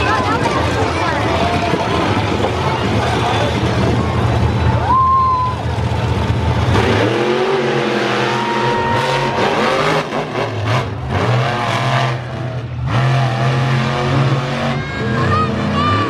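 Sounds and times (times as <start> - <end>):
truck engine revving loudly: 0.0 - 16.0.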